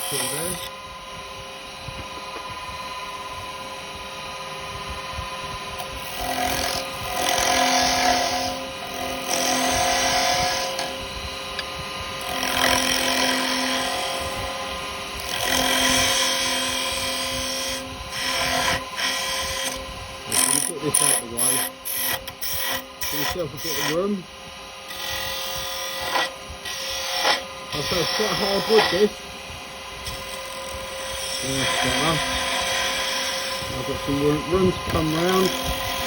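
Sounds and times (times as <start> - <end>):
chisel scraping spinning wood: 0.0 - 0.8, 5.7 - 36.0
lathe motor hum: 0.0 - 36.0.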